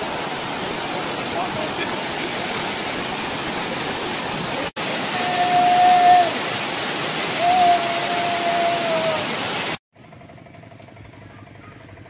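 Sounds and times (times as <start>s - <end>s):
waterfall rushing over rocks: 0.0s - 9.8s.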